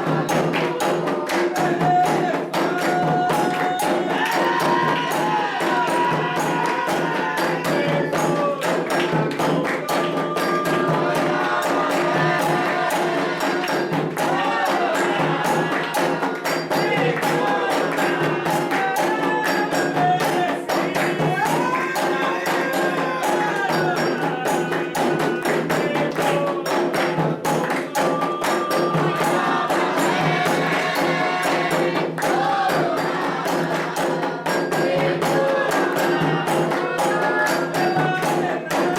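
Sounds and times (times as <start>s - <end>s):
drums and hand percussion: 0.0s - 38.9s
voices singing a chant: 0.0s - 38.9s.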